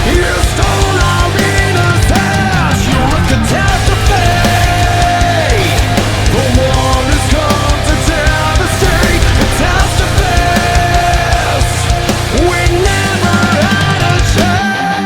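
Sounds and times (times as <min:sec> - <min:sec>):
heavy bass and drums: 0:00.0 - 0:14.8
distorted lead guitar: 0:00.0 - 0:15.0.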